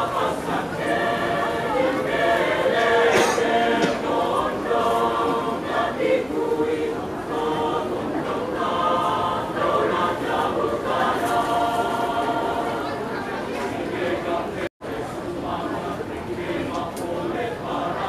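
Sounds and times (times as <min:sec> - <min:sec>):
mixed choir singing: 0:00.0 - 0:18.0.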